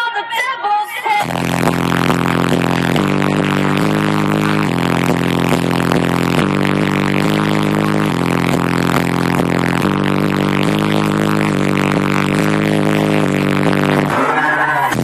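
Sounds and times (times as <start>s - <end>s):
bass-heavy music through car speakers: 0.1s - 15.0s.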